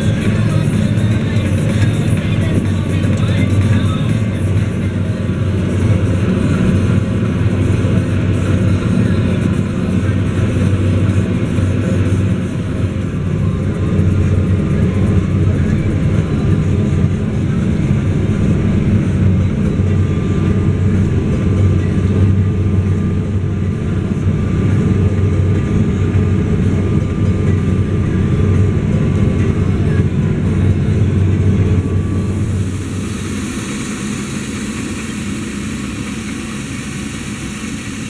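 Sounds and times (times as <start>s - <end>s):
faint steady whine: 0.0s - 38.0s
tractor diesel engine running: 0.0s - 38.0s.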